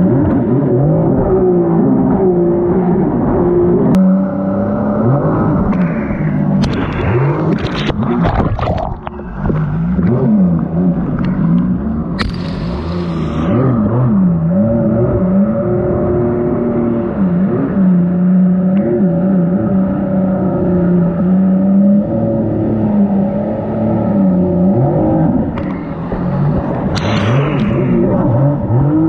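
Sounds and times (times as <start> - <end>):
jet ski engine revving: 0.0 - 8.4, 9.2 - 29.0.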